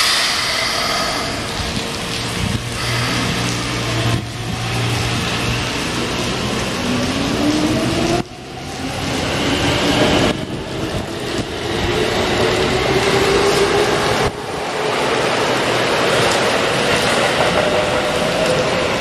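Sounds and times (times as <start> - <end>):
rumble of train wheels: 0.0 - 19.0.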